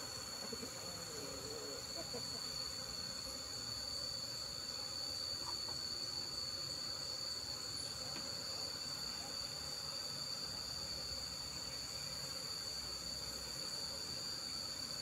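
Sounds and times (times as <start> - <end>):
shrill insect chorus: 0.0 - 15.0.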